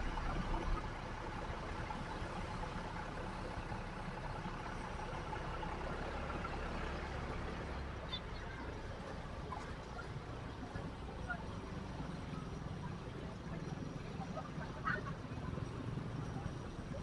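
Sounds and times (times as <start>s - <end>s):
vehicle engine running: 0.0s - 14.7s
road and wind noise: 0.0s - 17.0s.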